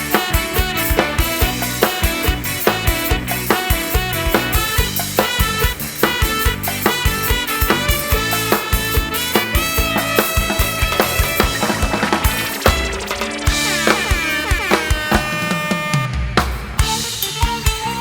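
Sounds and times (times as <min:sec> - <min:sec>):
drum kit beat: 0:00.0 - 0:18.0
live band playing instrumental: 0:00.0 - 0:18.0.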